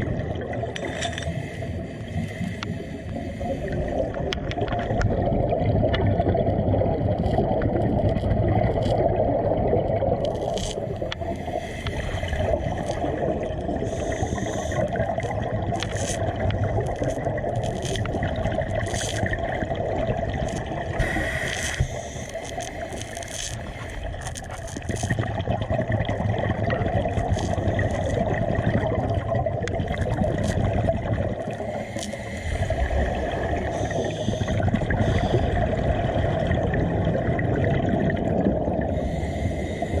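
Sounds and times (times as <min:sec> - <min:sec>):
low rumbling gurgling water: 0:00.0 - 0:40.0.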